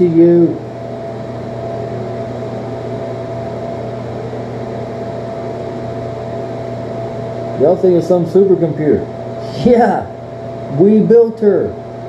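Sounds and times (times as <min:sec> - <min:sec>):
faint steady whine: 0:00.0 - 0:12.0
ventilation fan humming: 0:00.0 - 0:12.0.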